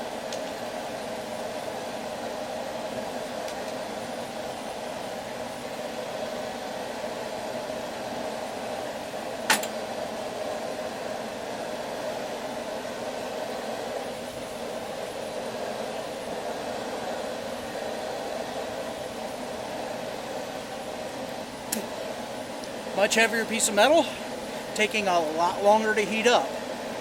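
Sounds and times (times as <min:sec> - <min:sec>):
forge running: 0:00.0 - 0:27.0.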